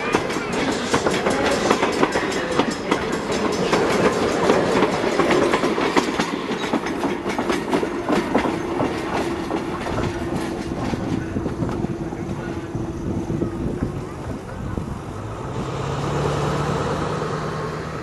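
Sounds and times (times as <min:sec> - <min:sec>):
train wheels clickety-clack: 0:00.0 - 0:17.2
train rumble: 0:00.0 - 0:18.0.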